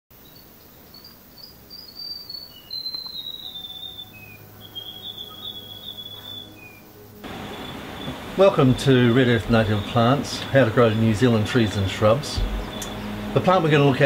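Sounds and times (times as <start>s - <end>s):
long whistled notes: 2.0s - 13.9s.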